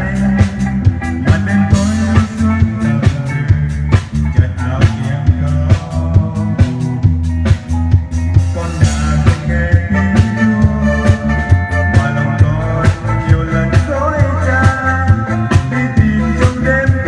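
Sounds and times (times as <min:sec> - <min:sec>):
band playing a hymn: 0:00.0 - 0:17.0
drum kit beat: 0:00.0 - 0:17.0.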